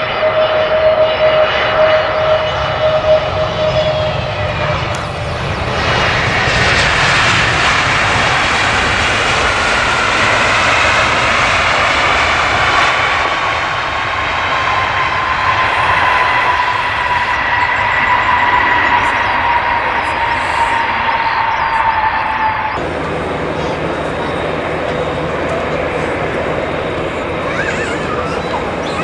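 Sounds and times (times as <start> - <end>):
jet engines passing: 0.0 - 29.0.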